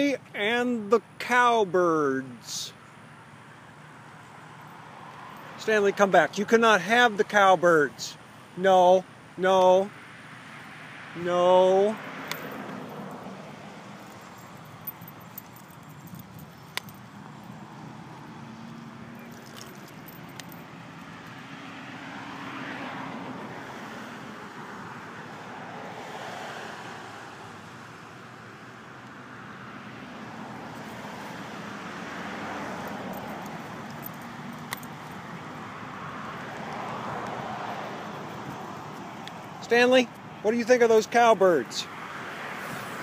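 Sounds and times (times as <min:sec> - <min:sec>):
cars passing: 0:00.0 - 0:43.0.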